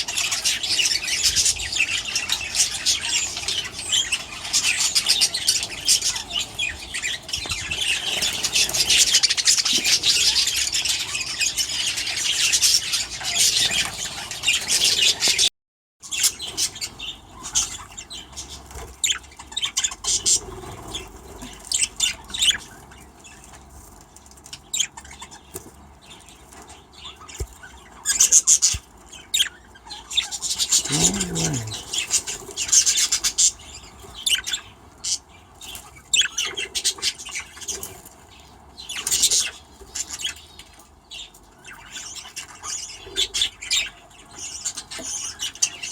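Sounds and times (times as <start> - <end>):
budgerigars chirping and chattering: 0.0 - 15.5, 16.1 - 45.9.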